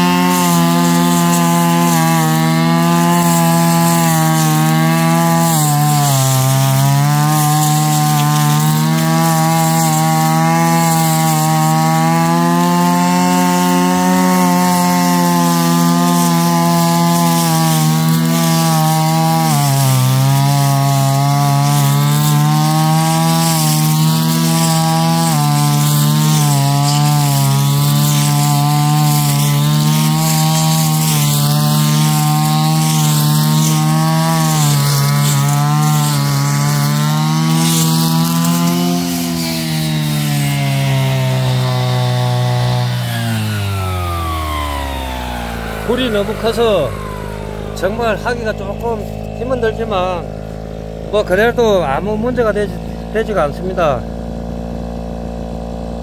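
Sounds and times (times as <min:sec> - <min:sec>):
brush cutter cutting grass: 0:00.0 - 0:56.0.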